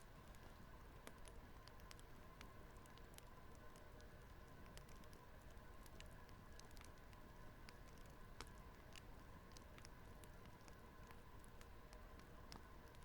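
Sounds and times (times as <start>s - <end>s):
fireplace crackling: 0.0s - 13.0s
low steady hum: 0.0s - 13.0s.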